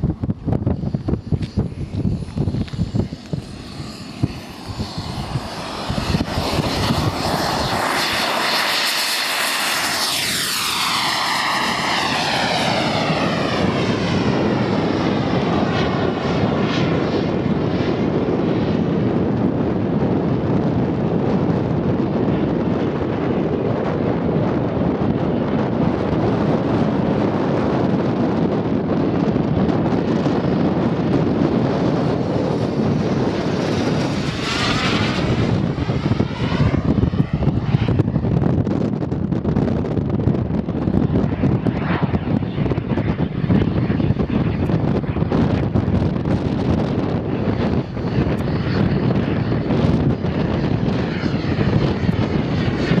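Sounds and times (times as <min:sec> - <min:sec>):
model jet engines whining: 0:00.0 - 0:53.0.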